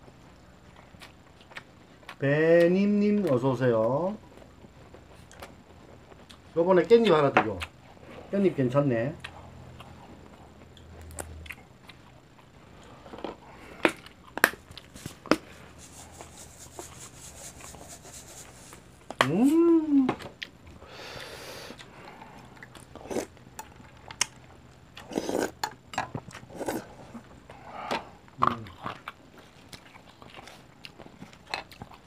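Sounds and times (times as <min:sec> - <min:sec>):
people chewing: 0:00.0 - 0:08.4, 0:09.1 - 0:32.0.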